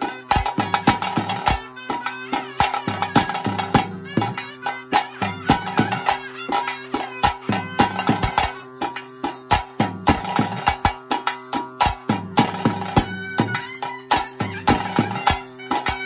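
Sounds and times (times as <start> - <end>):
fast sharp drum strokes: 0.0 - 16.0
reed pipe melody: 0.0 - 16.0
steady drone: 0.0 - 16.0.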